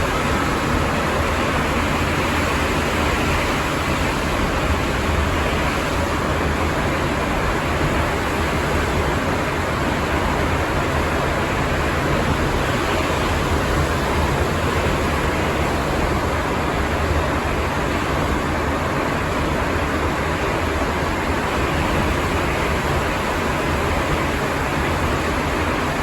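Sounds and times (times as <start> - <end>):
subway train rumble inside car: 0.0 - 26.0.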